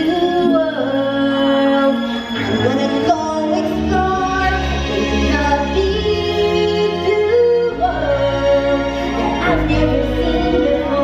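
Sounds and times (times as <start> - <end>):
orchestral backing music: 0.0 - 11.0.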